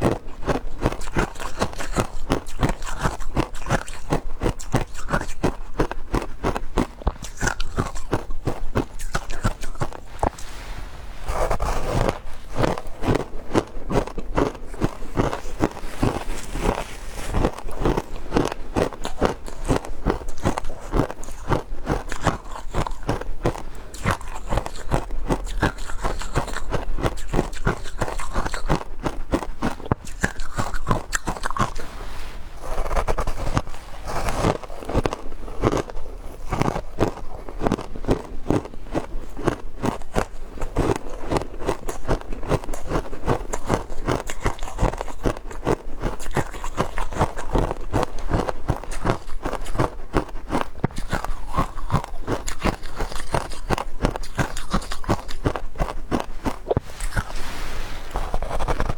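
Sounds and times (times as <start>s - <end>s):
crunching frozen ice: 0.0s - 32.0s, 32.6s - 58.9s.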